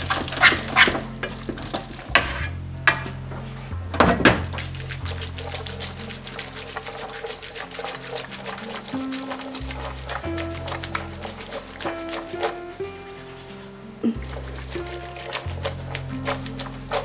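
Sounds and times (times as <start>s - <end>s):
wooden fork scraping frying pan: 0.0s - 3.8s, 4.4s - 17.0s
soft background music: 0.0s - 17.0s.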